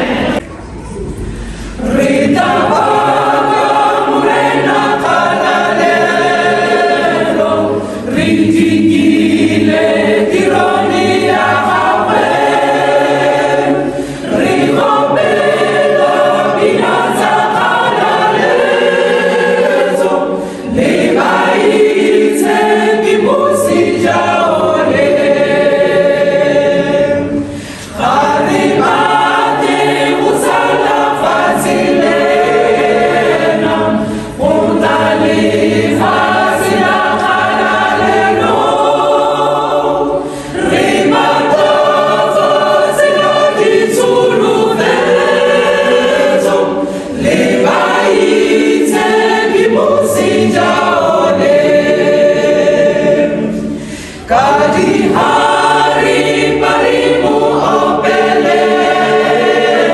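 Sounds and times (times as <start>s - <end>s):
mixed choir singing a cappella: 0.0s - 0.5s, 1.2s - 59.9s.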